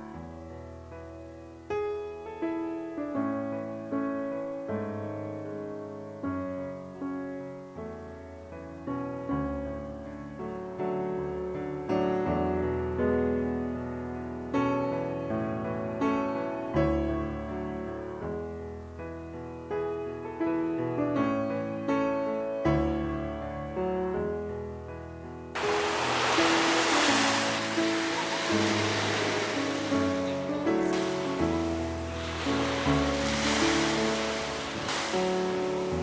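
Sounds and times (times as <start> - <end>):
gentle piano piece: 0.0 - 36.0.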